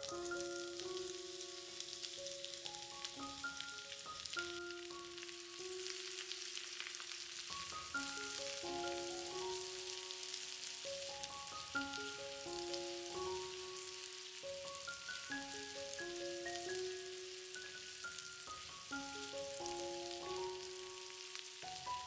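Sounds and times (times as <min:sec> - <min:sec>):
gentle mallet melody: 0:00.0 - 0:06.0, 0:07.6 - 0:22.0
onion sizzling in a pan: 0:00.0 - 0:22.0.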